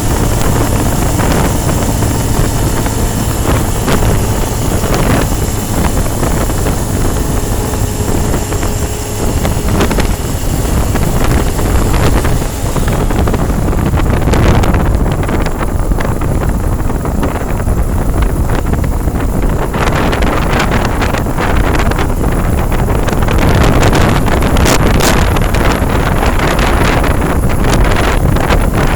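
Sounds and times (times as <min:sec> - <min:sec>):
road traffic noise: 0:00.0 - 0:28.9
wind buffeting microphone: 0:00.0 - 0:28.9.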